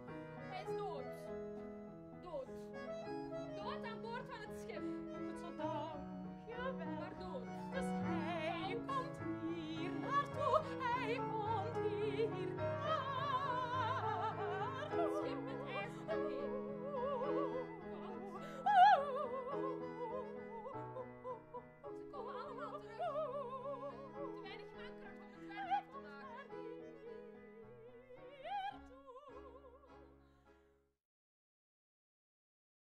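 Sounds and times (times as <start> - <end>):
piano: 0.0 - 30.8
accordion: 0.0 - 30.9
woman singing operatically: 0.5 - 1.3, 3.4 - 30.0.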